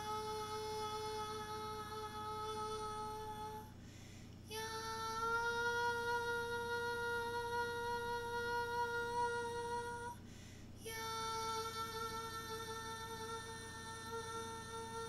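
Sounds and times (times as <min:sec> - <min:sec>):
woman singing long notes: 0:00.0 - 0:03.7, 0:04.5 - 0:10.2, 0:10.8 - 0:15.0.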